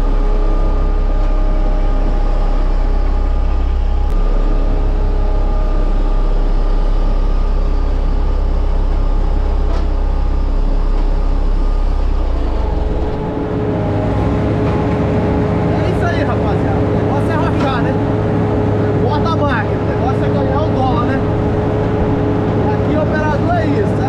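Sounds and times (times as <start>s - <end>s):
diesel engine drone: 0.0s - 24.0s
steady whine: 0.0s - 24.0s.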